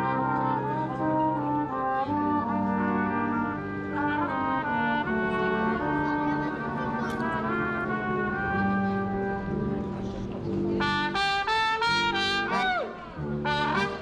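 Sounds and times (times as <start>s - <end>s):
brass band playing: 0.0s - 14.0s
tuba bass line: 0.0s - 14.0s.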